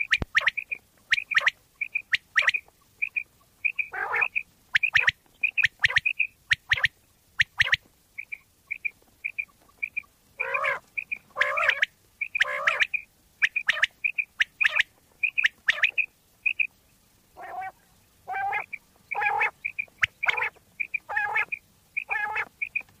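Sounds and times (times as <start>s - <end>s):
quail high clear notes: 0.0s - 16.7s, 17.4s - 22.9s
quail raspy calls: 0.0s - 16.7s, 17.4s - 23.0s.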